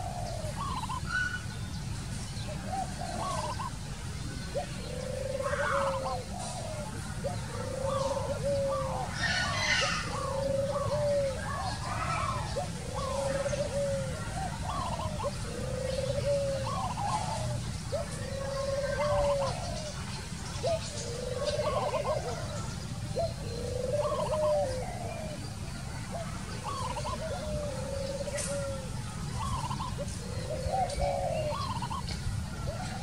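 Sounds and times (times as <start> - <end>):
dove cooing: 0.0 - 1.4, 2.4 - 33.0.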